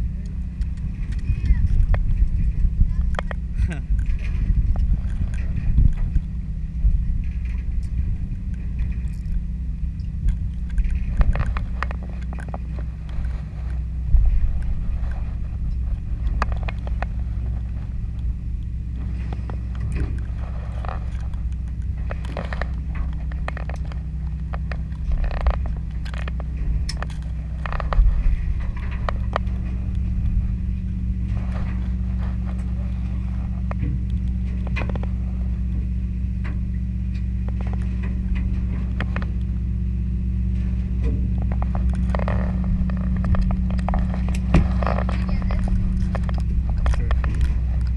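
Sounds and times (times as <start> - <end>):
scattered clicks and knocks: 0.0 - 39.6, 40.5 - 47.9
boat engine droning: 0.0 - 47.9.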